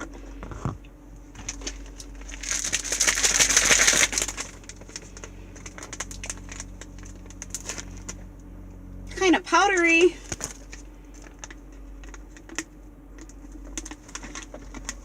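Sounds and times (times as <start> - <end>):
plastic packet crinkling: 1.3 - 8.2, 9.7 - 15.0.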